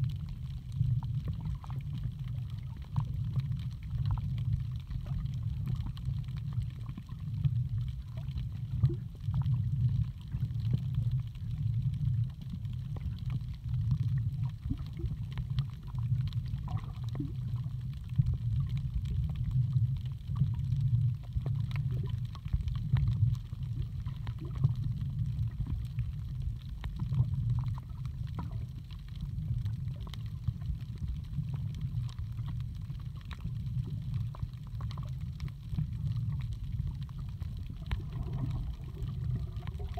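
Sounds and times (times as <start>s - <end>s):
faint clicks and crackles: 0.0s - 39.9s
underwater rumble of sea water: 0.0s - 39.9s.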